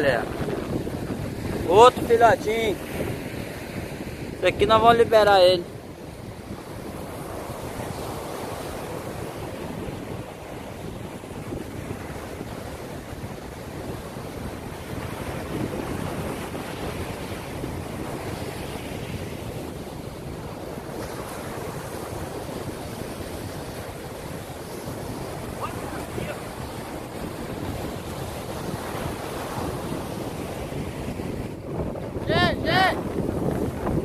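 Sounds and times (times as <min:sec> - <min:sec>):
ocean surf breaking on a beach: 0:00.0 - 0:34.0
wind rumbling on microphone: 0:00.0 - 0:34.0.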